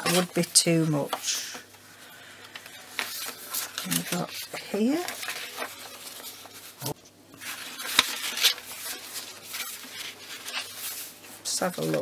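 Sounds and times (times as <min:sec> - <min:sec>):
paper rustling: 0:00.0 - 0:01.6, 0:02.4 - 0:12.0.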